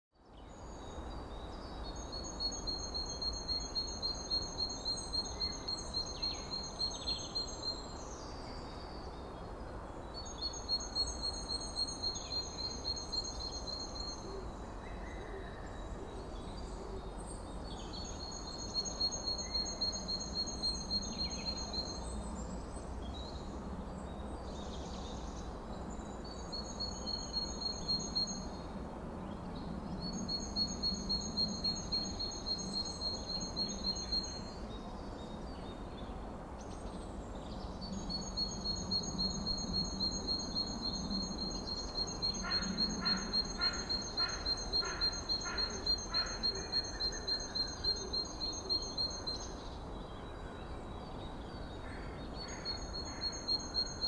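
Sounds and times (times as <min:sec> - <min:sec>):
low background noise: 0:00.1 - 0:54.0.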